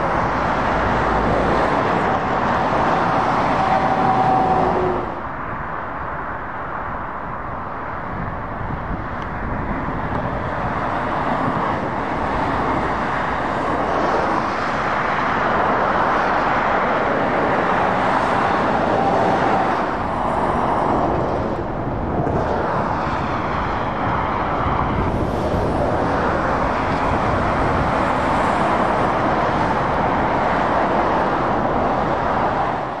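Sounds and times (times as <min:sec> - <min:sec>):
vehicles driving past: 0:00.0 - 0:33.0.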